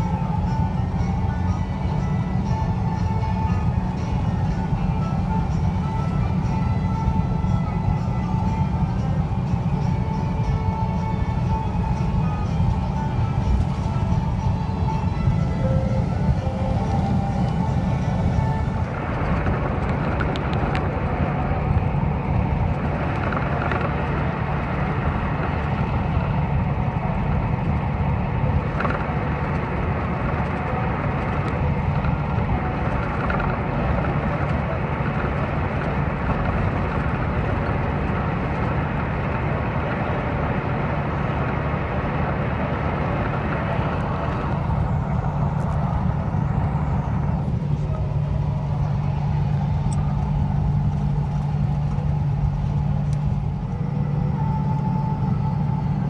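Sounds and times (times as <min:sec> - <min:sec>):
diesel engine drone: 0:00.0 - 0:56.0
tyre and road noise: 0:00.0 - 0:56.0.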